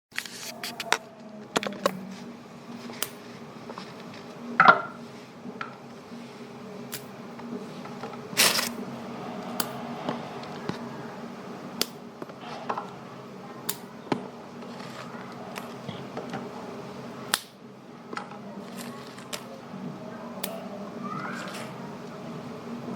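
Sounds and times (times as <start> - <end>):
low hum: 0.1 - 22.9.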